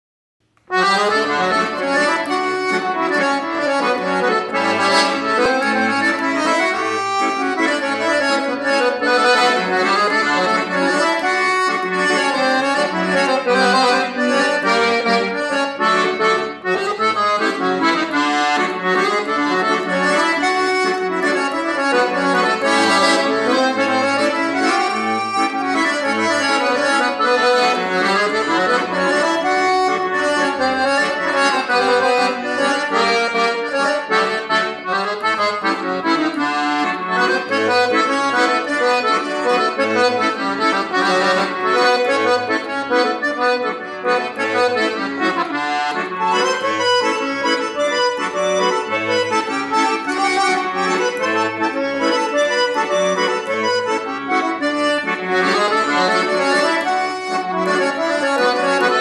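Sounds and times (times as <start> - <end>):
accordion playing samba tune: 0.4 - 59.0.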